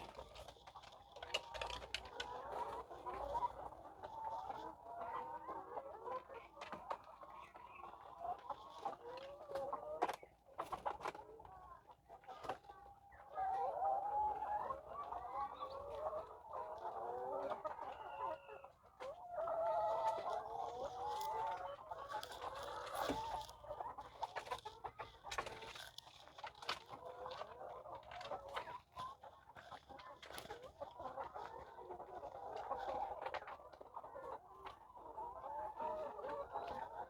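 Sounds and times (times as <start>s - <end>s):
hens clucking: 0.0s - 37.0s.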